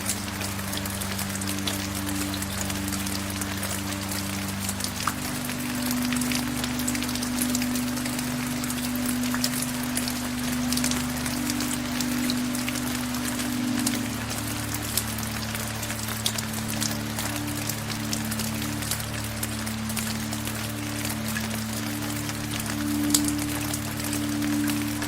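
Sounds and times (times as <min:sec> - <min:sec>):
soft low music tones: 0:00.0 - 0:25.0
steady rain falling: 0:00.0 - 0:25.0.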